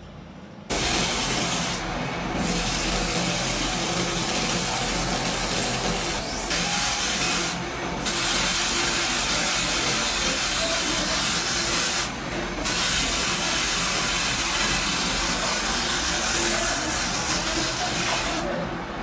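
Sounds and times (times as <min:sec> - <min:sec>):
paint sprayer hissing: 0:00.7 - 0:18.5.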